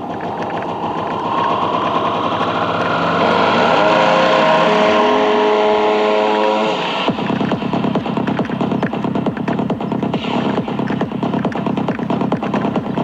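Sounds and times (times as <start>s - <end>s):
electronic music through car speakers: 0.0s - 13.0s.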